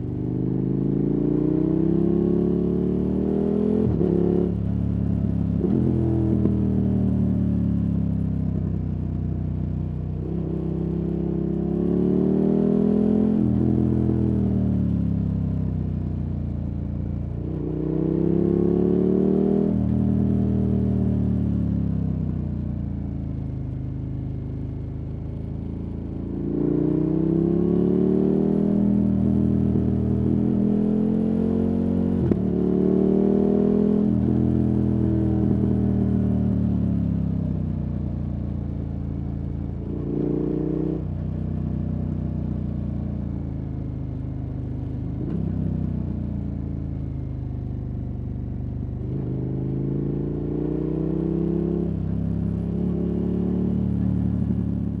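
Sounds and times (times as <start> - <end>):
motorcycle engine revving: 0.0 - 8.3, 10.2 - 15.4, 17.4 - 22.1, 26.2 - 37.7, 38.5 - 42.9, 44.0 - 55.0.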